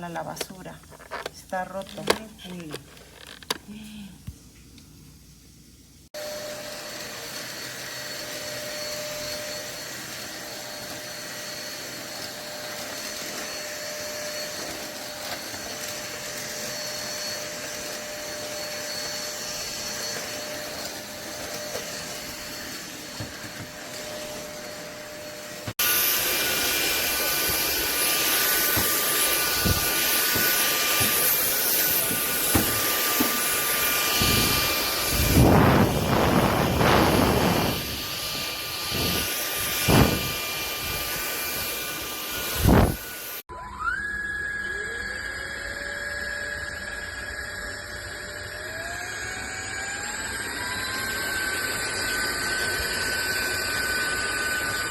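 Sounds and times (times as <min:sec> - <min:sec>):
stick vacuum running with whine: 0:06.2 - 0:54.9.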